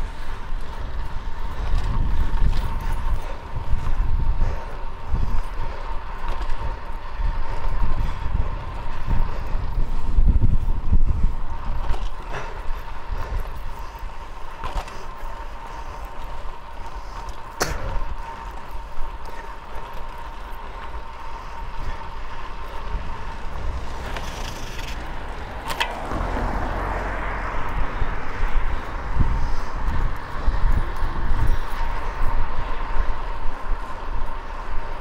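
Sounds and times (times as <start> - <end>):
bicycle tyre and road noise: 0.0 - 35.0
wind rumbling on microphone: 0.0 - 35.0.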